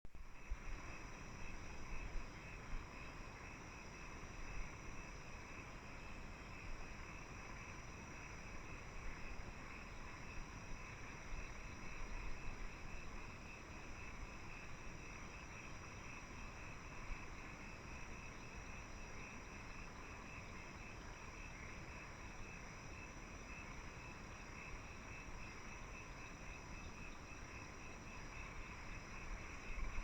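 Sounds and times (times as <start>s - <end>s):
crickets and insects trilling: 0.2s - 30.0s.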